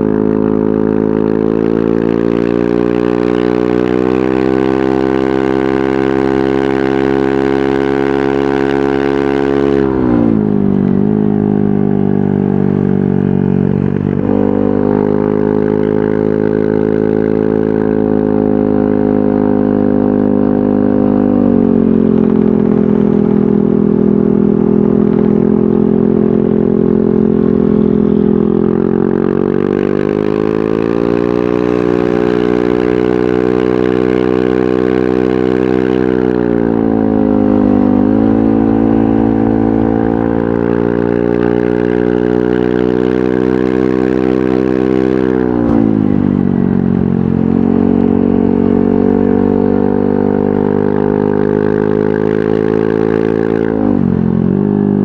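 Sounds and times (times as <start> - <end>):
scooter engine revving: 0.0 - 55.0.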